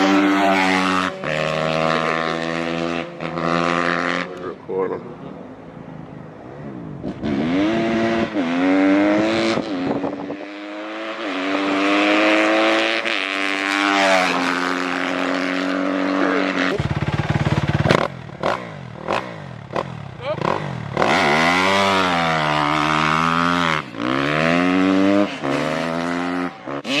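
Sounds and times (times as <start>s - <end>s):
dirt bike engine accelerating: 0.0s - 4.6s, 6.8s - 27.0s.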